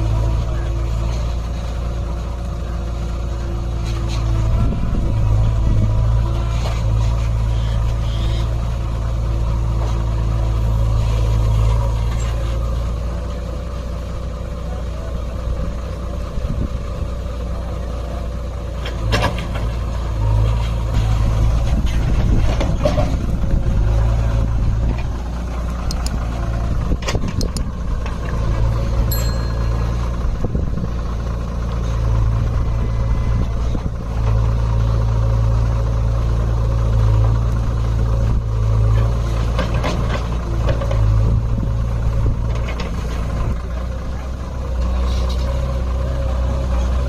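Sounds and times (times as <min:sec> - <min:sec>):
diesel engine working: 0:00.0 - 0:47.0.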